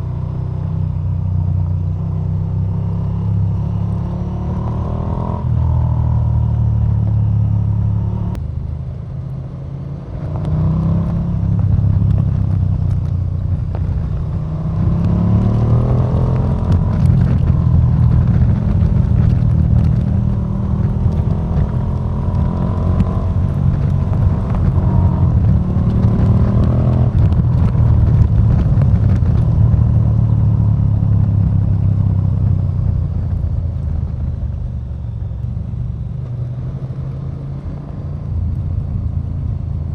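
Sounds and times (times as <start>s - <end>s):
motorcycle engine revving: 0.0s - 8.5s, 9.8s - 39.9s.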